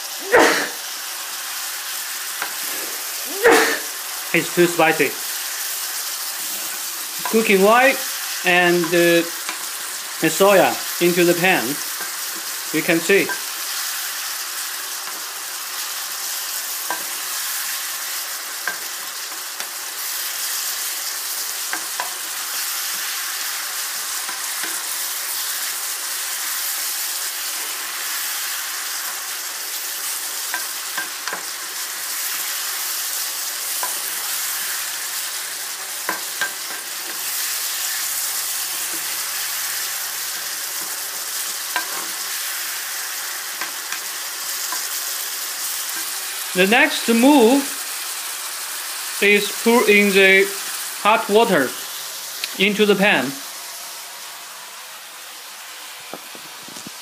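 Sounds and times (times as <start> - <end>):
meat sizzling in oil: 0.0 - 57.0.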